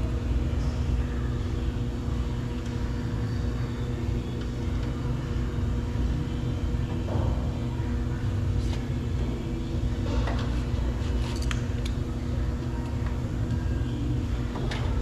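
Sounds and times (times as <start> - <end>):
machinery rumble and hum: 0.0 - 15.0.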